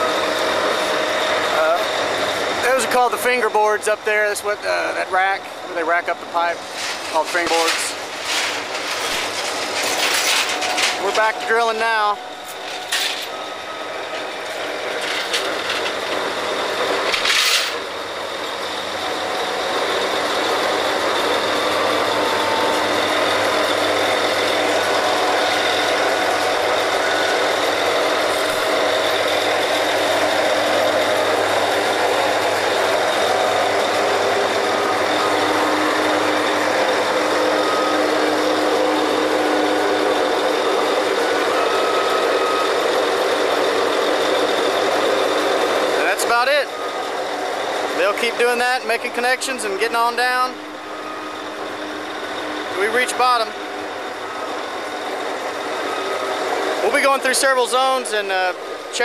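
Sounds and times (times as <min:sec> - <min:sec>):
drilling machinery drone: 0:00.0 - 0:59.0.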